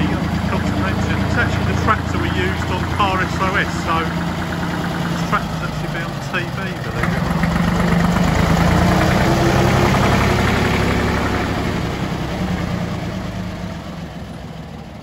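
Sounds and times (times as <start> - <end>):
tractor diesel engine passing: 0.0 - 15.0.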